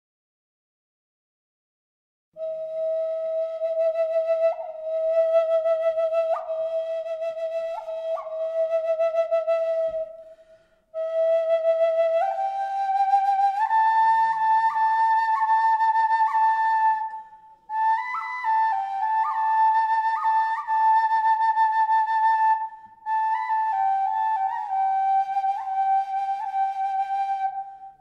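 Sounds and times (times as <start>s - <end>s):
solo flute melody: 2.4s - 28.0s.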